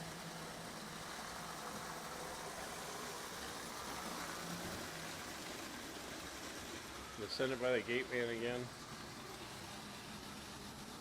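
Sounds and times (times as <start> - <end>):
toy train whirring rattle: 0.0 - 11.0.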